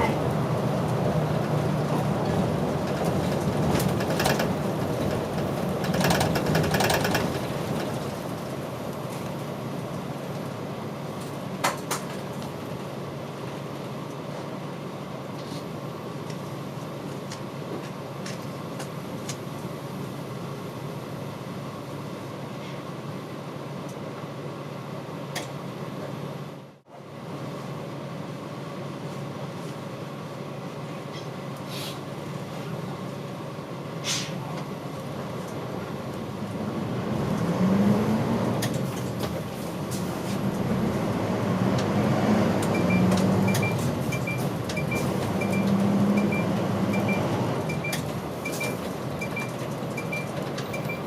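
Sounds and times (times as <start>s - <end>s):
bus diesel engine idling: 0.0s - 37.1s, 38.4s - 51.0s
bus slowing to a stop: 0.0s - 51.0s.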